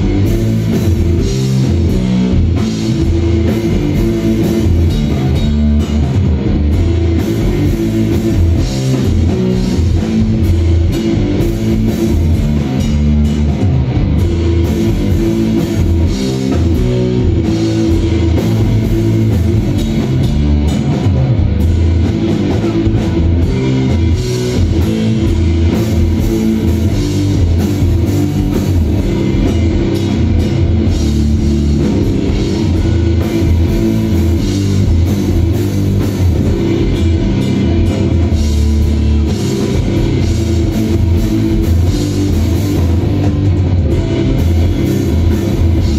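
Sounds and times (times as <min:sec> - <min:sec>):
instrumental rock band: 0:00.0 - 0:45.9.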